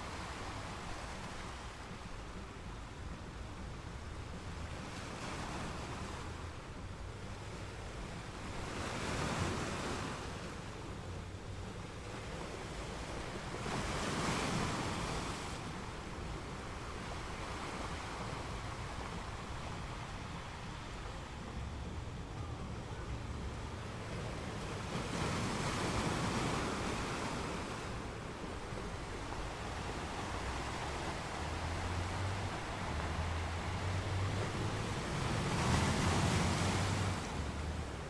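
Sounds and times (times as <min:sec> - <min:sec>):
surf rumbling: 0:00.0 - 0:38.0
waves washing in: 0:00.0 - 0:38.0.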